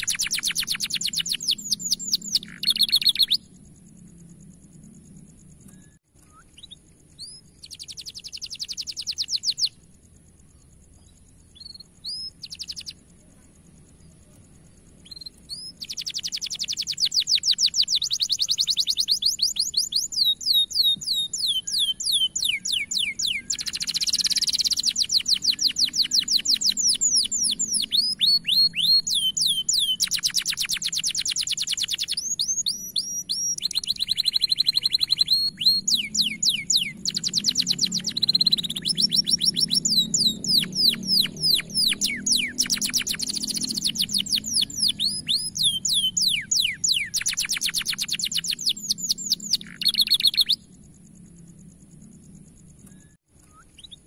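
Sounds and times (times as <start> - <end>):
canary singing trills: 0.0 - 51.2, 52.5 - 54.0.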